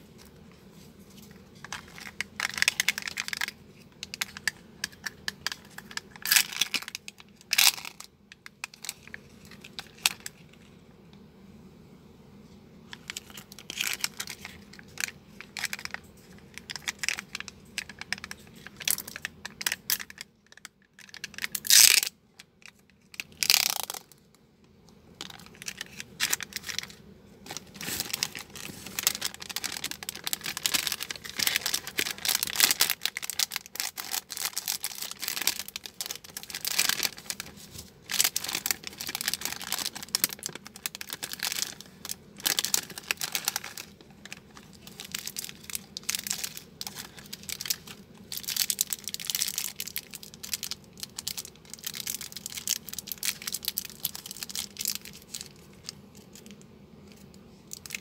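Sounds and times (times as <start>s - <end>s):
plastic candy wrappers crinkling: 1.2s - 10.7s, 12.9s - 24.3s, 25.2s - 58.0s.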